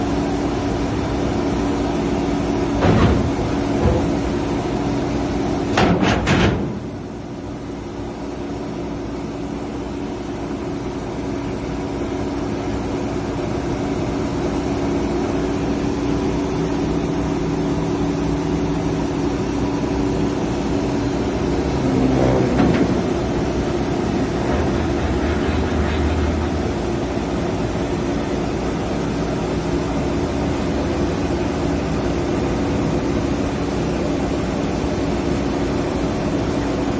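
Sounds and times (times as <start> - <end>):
excavator engine running: 0.0 - 36.9.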